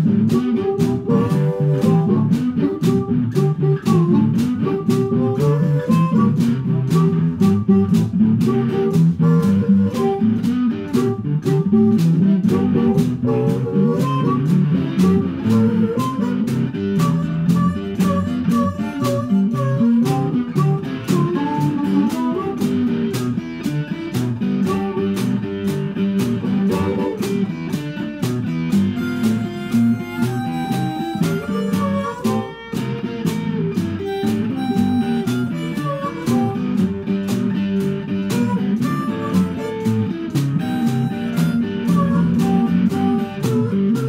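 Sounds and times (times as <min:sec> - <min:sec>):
blues guitar playing: 0:00.0 - 0:44.0
drum kit steady beat: 0:00.0 - 0:44.0.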